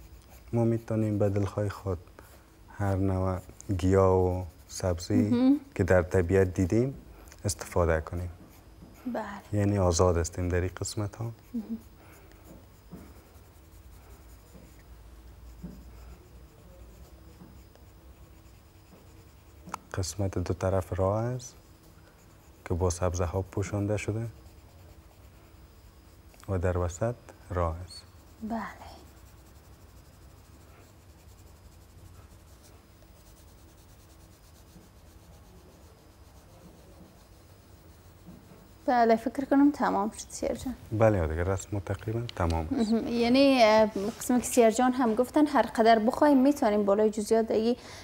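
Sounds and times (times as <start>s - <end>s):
pencil scratching on paper: 0.0s - 5.3s, 7.5s - 46.2s
low steady hum: 0.0s - 48.0s.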